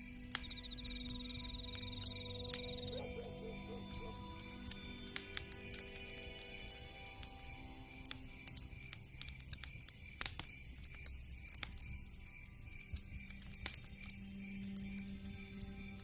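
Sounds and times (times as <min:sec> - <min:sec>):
campfire crackling: 0:00.0 - 0:16.0
faint pulsing chirp: 0:00.0 - 0:16.0.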